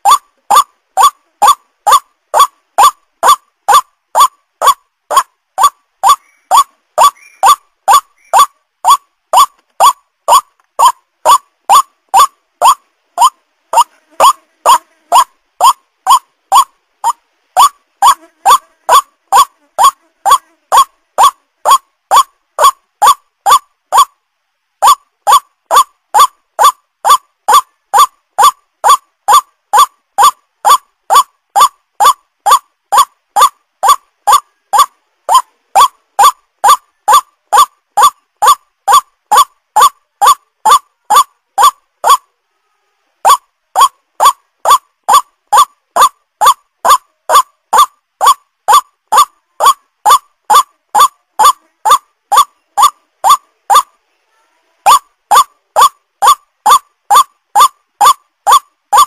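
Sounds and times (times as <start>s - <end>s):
waterhen call: 0.0s - 24.2s, 24.8s - 42.3s, 43.2s - 53.9s, 54.8s - 59.0s.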